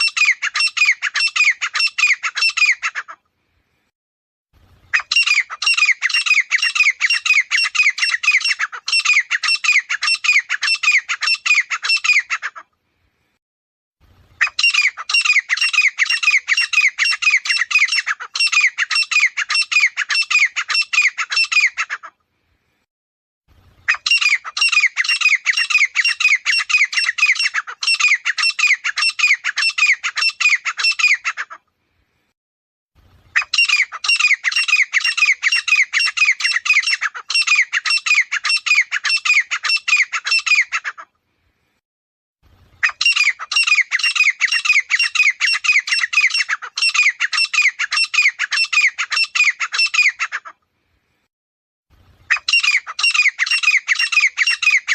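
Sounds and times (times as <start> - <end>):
bird harsh repeated calls: 0.0 - 3.2, 4.9 - 12.7, 14.4 - 22.2, 23.8 - 31.6, 33.2 - 41.1, 42.8 - 50.6, 52.2 - 54.9.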